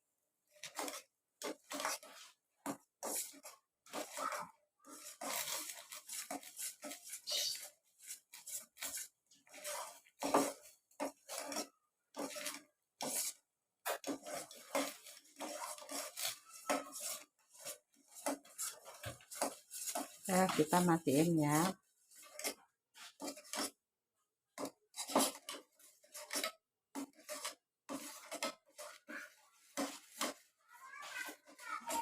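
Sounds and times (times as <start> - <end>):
spoon scraping a cooking pan: 0.5 - 23.8, 24.5 - 32.0.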